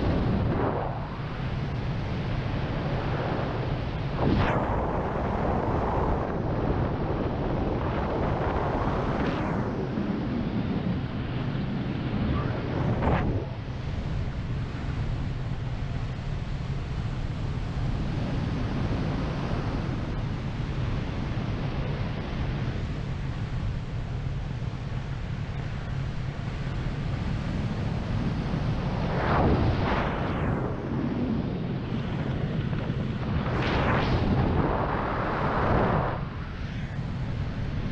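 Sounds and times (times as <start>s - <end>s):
steady low rumble: 0.0s - 37.9s
wind rushing past microphone: 0.0s - 37.9s.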